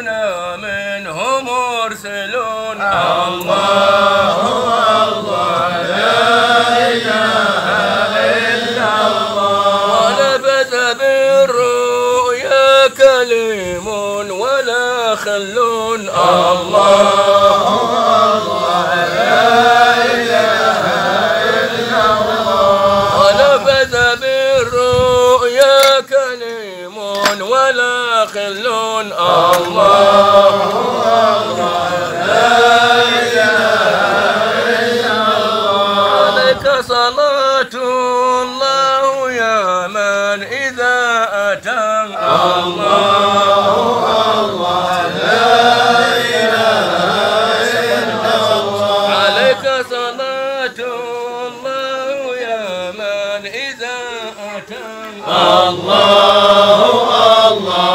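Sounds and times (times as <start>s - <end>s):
men chanting: 0.0s - 57.9s.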